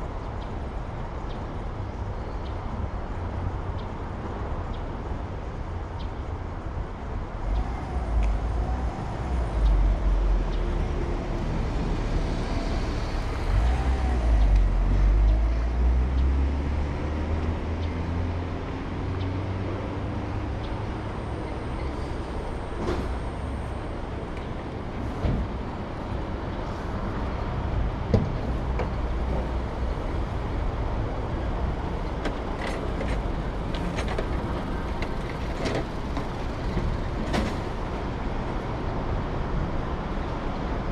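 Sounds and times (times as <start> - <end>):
traffic noise: 0.0 - 40.9.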